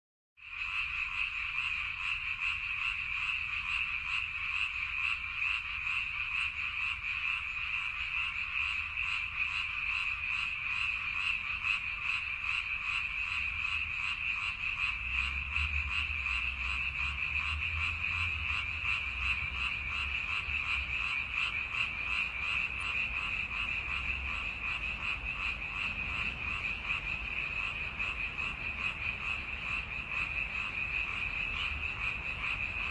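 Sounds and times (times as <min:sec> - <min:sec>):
frogs croaking: 0:00.4 - 0:32.9.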